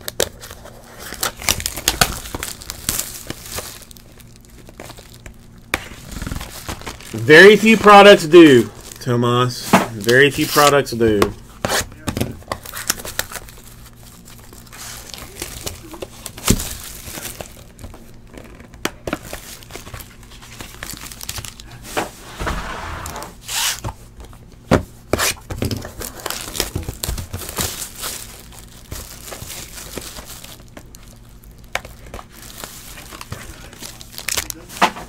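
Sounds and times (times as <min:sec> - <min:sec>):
foil wrappers crinkling and tearing: 0:00.0 - 0:21.9, 0:25.0 - 0:35.0.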